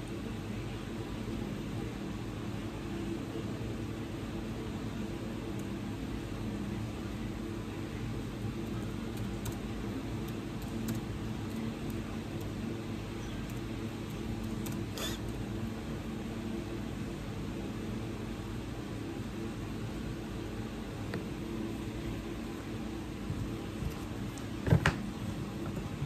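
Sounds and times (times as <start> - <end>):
low hum with hiss: 0.0 - 26.0.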